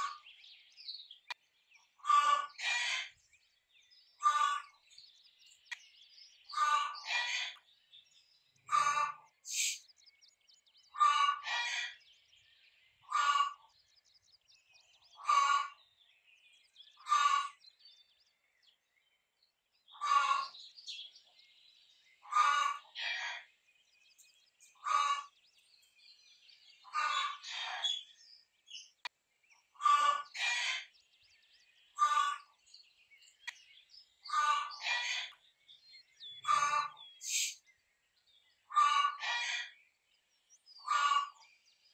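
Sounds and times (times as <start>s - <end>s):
faint small bird chirps: 0.0s - 41.9s.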